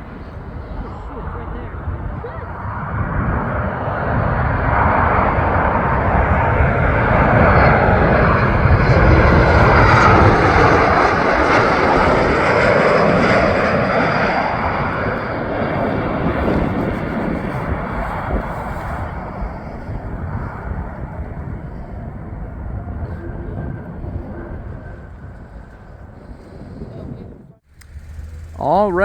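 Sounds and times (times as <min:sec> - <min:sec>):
jet plane passing overhead: 0:00.0 - 0:29.0.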